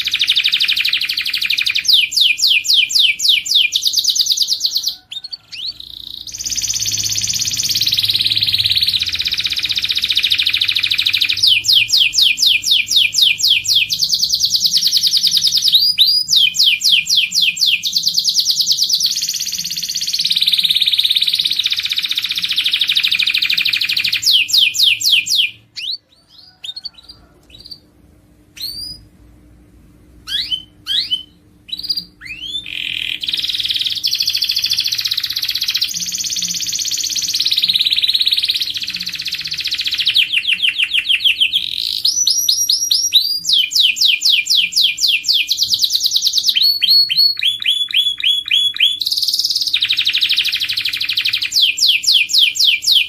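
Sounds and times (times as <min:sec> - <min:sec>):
canary singing trills: 0:00.0 - 0:27.9, 0:28.5 - 0:29.1, 0:30.2 - 0:53.0.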